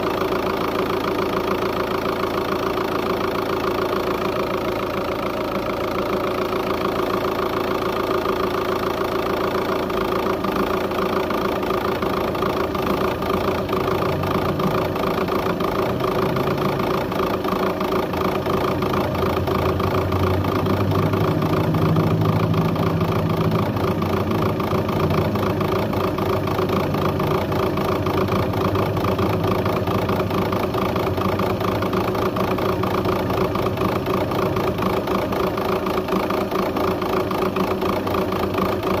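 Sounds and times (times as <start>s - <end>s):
diesel engine idling unevenly: 0.0s - 39.0s.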